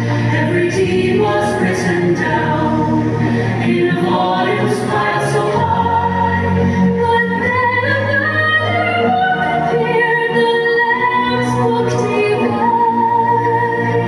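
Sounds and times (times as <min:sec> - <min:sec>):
young voices singing together: 0:00.0 - 0:14.0.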